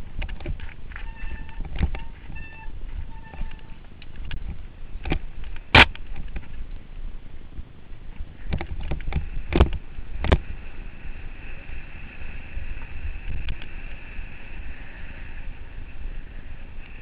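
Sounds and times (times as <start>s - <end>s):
low rumble of bike ride: 0.0s - 17.0s.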